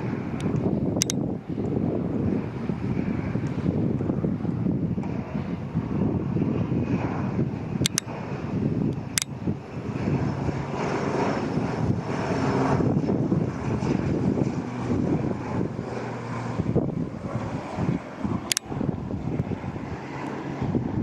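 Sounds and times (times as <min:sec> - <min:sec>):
propeller airplane flying by: 0:00.0 - 0:21.0.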